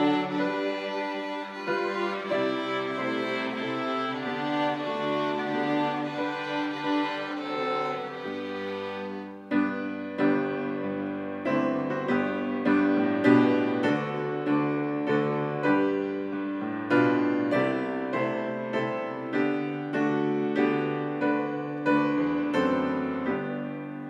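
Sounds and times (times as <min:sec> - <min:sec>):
slow gentle piano: 0:00.0 - 0:24.0.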